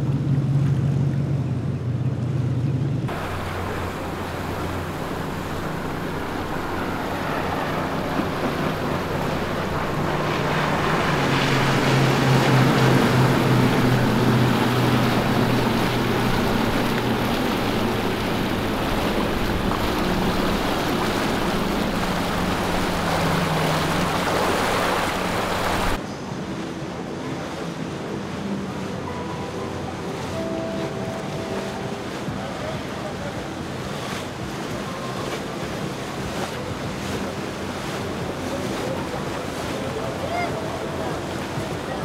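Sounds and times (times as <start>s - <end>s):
boat spray rushing: 0.0s - 42.0s
outboard motors droning: 0.0s - 42.0s
water washing from slow boat: 0.0s - 42.0s.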